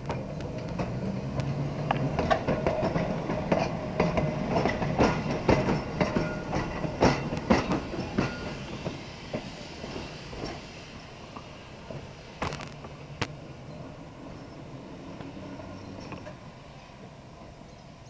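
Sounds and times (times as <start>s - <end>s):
streetcar wheels clacking over rail joints: 0.0s - 16.6s.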